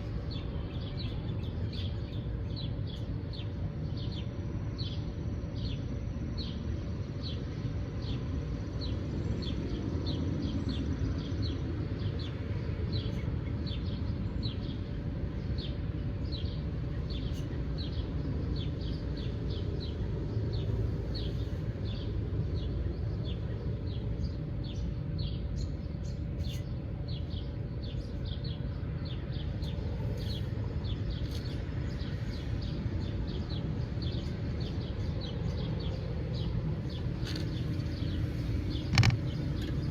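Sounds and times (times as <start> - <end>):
birds chirping: 0.0 - 39.9
low background rumble: 0.0 - 39.9.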